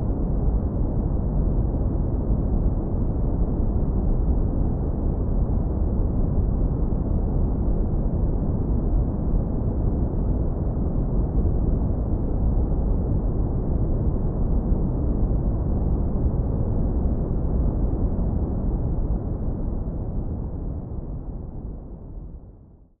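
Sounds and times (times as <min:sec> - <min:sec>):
deep brown noise rumble: 0:00.0 - 0:23.0.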